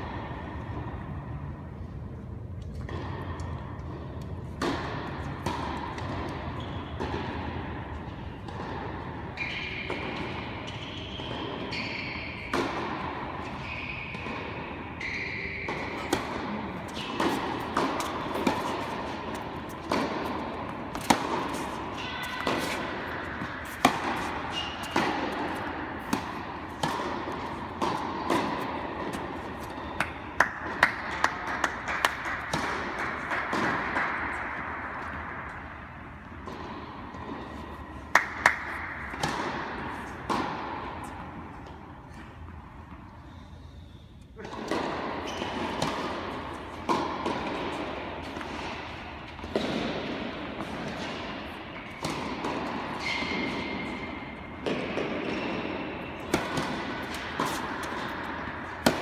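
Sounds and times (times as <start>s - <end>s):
tennis balls bouncing on court: 0.0s - 43.2s, 44.4s - 59.0s
tennis balls hit by rackets: 0.0s - 59.0s.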